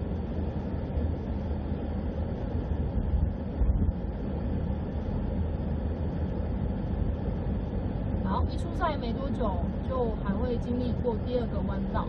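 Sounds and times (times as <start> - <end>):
vehicle rumbling along road: 0.0 - 12.0.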